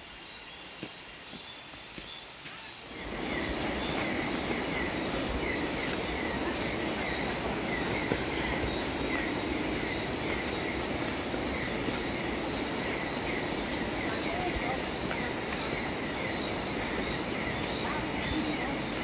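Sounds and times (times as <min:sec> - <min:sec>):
shrill insect chorus: 0:00.0 - 0:19.0
steady rushing noise: 0:02.8 - 0:19.0.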